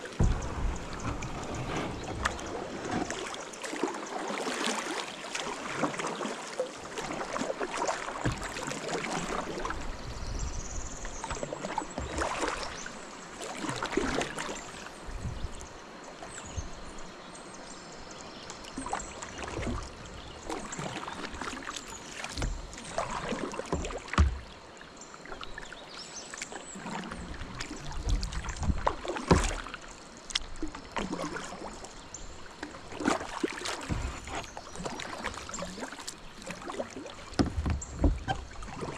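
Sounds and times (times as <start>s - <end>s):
paddle splashing into water: 0.0s - 15.6s, 18.7s - 38.9s
water running off paddle: 0.0s - 15.6s, 18.6s - 38.9s.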